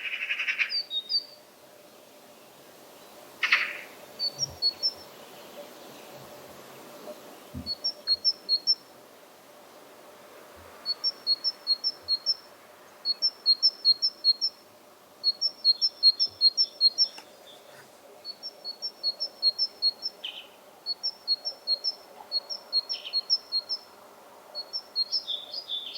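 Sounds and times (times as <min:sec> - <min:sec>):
great tit singing: 0:00.0 - 0:01.4, 0:03.0 - 0:08.9, 0:10.7 - 0:25.9.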